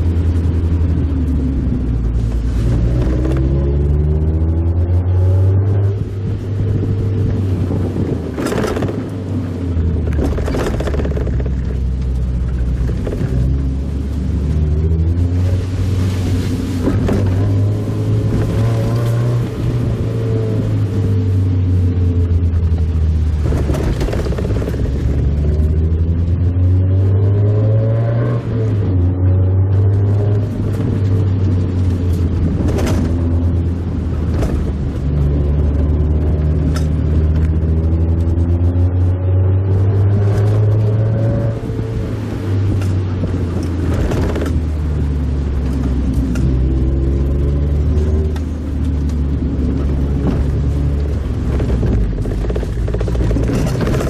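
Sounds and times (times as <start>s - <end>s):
car engine while driving: 0.0s - 54.0s.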